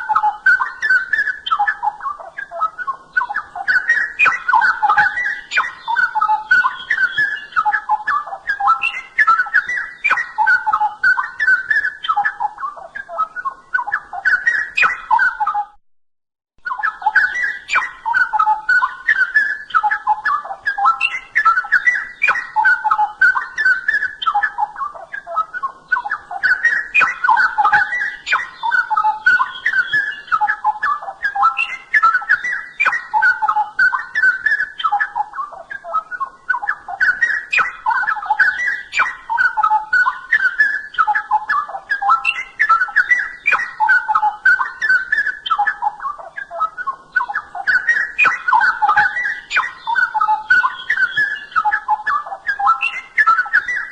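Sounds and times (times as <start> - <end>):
bird singing whistled phrases: 0.0 - 15.8, 16.6 - 53.9.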